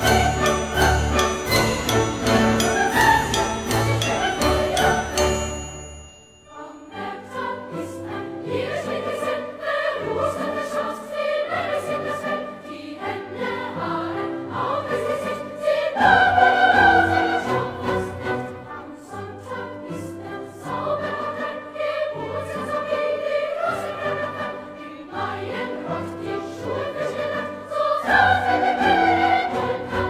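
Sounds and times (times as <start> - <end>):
choir singing classical music: 0.0 - 30.0.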